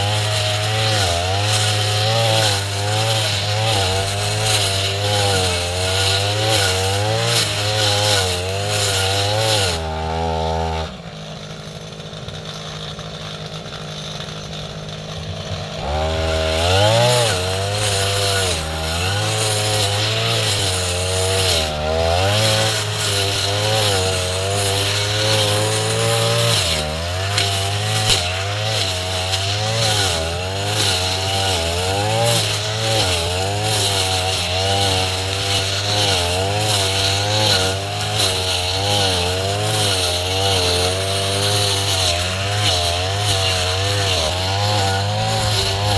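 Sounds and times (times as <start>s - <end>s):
brush cutter engine revving: 0.0s - 45.9s.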